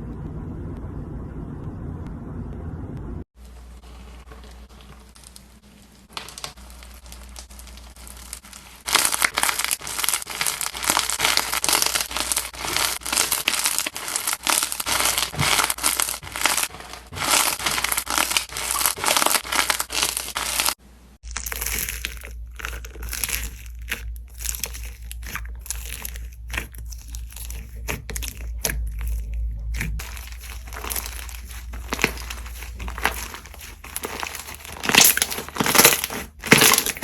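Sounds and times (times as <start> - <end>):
slime crackling and popping: 3.9 - 37.0.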